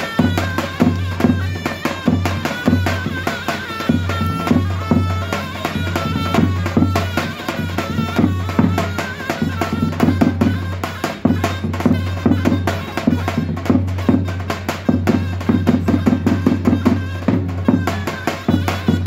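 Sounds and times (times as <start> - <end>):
drum beating fast rhythm: 0.0 - 19.0
reed pipe melody: 0.0 - 19.0.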